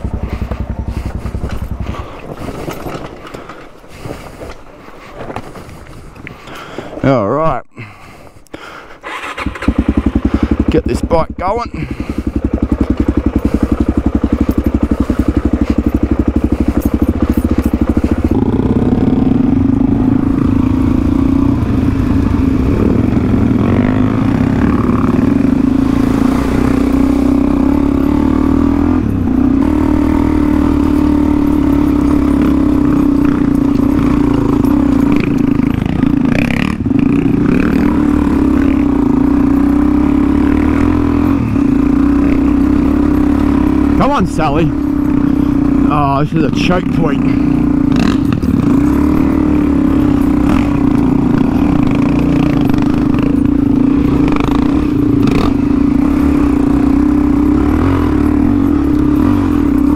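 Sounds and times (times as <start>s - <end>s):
dirt bike engine: 0.0s - 59.9s.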